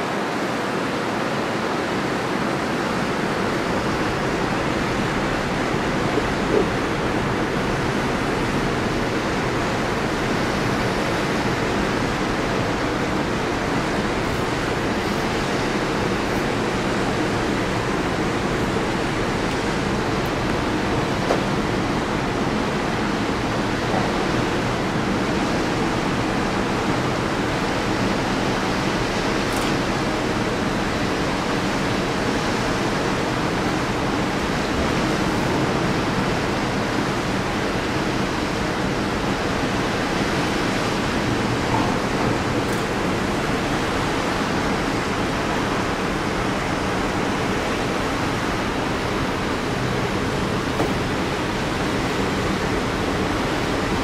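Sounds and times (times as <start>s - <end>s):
water rushing past hull: 0.0s - 54.0s.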